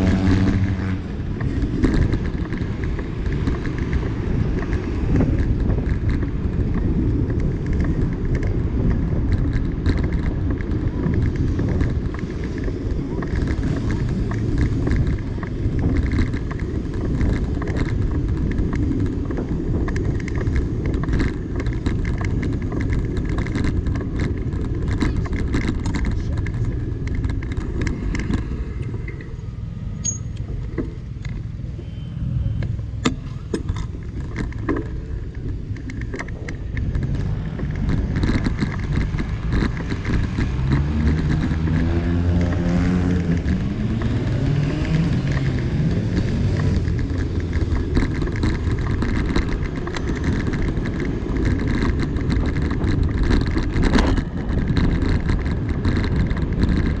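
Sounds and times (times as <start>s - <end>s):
bike road rumble: 0.0s - 57.0s
wind buffeting microphone: 0.0s - 57.0s.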